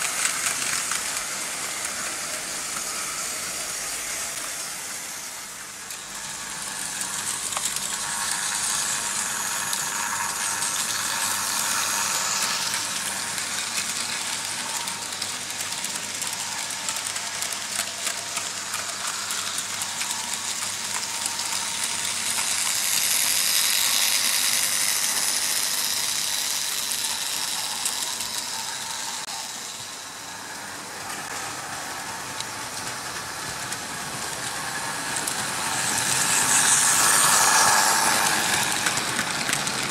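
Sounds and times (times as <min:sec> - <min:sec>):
model train wheels clattering on track: 0:00.0 - 0:39.9.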